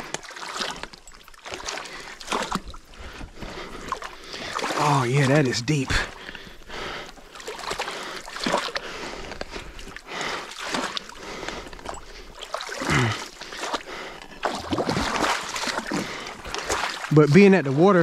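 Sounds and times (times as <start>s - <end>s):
trickle of flowing water: 0.0s - 18.0s
water sloshing around wading legs: 0.0s - 18.0s.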